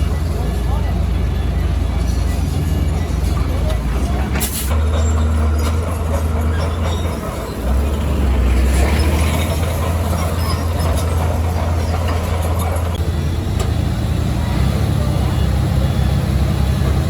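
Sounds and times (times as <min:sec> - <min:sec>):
heavy machine diesel engine rumbling: 0:00.0 - 0:17.0.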